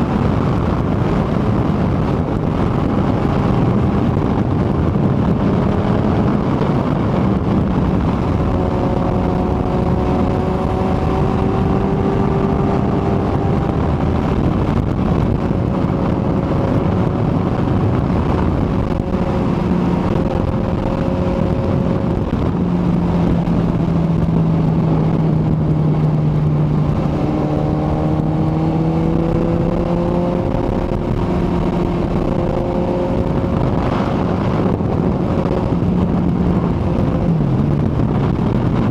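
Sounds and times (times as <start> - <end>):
motorcycle engine cruising: 0.0 - 38.9
wind noise rushing: 0.0 - 38.9.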